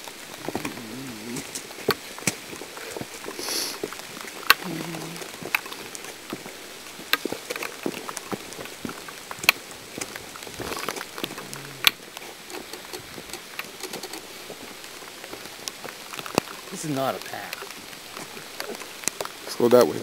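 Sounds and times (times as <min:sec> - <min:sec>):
steady rain on woods: 0:00.0 - 0:20.0.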